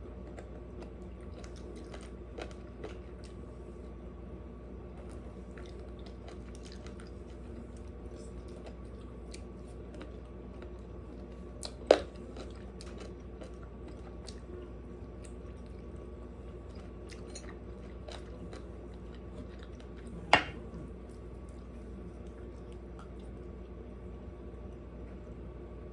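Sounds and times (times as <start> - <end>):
chewing and biting food: 0.0 - 3.8, 5.0 - 25.2
steady low hum: 0.0 - 25.9.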